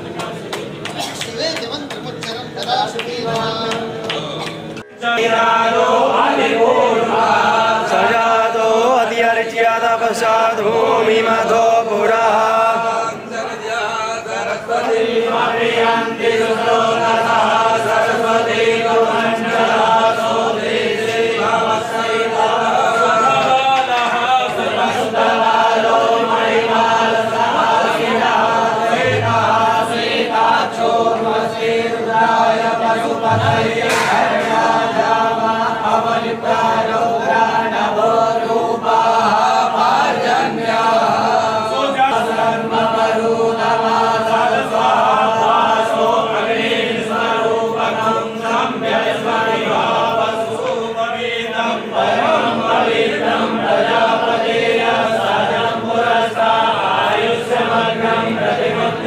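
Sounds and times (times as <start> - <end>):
men chanting together: 5.0 - 59.0.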